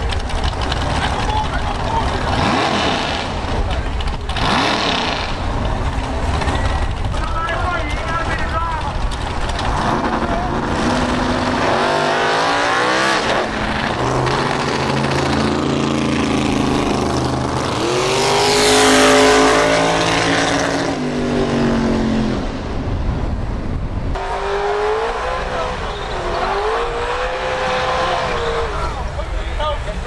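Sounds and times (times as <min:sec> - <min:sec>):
race car engines revving: 0:00.0 - 0:30.0.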